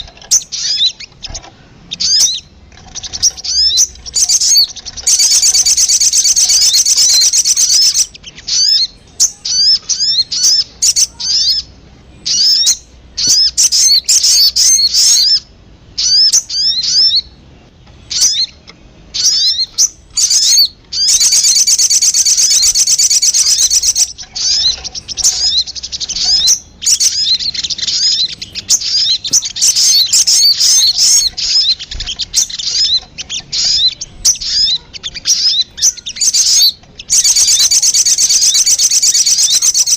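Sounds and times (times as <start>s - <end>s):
bird calls with high fast trills: 0.0s - 39.9s.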